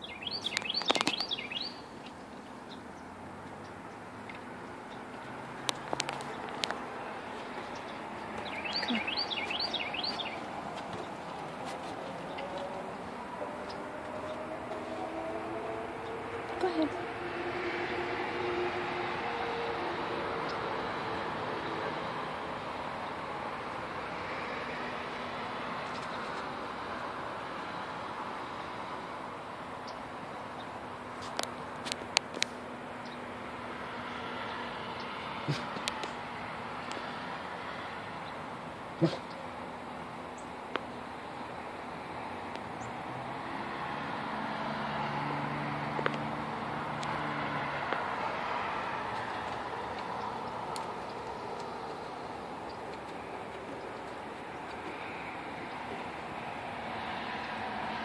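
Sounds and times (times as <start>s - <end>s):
vehicle passing: 0.0s - 58.0s.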